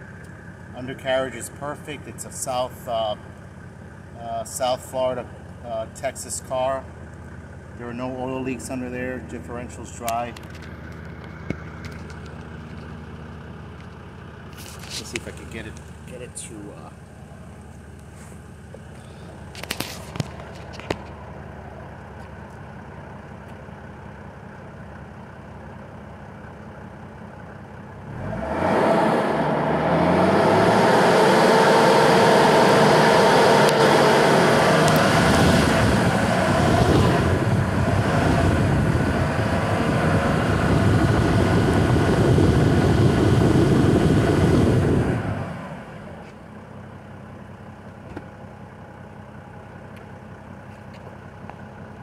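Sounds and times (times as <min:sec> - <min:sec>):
diesel engine idling and revving: 0:00.0 - 0:52.0.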